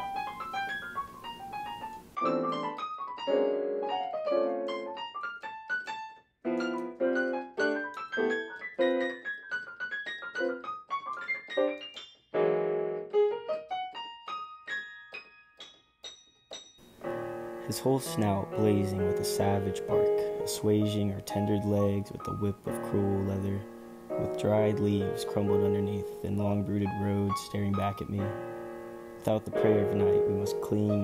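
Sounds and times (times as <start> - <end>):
digital piano melody: 0.0 - 31.0.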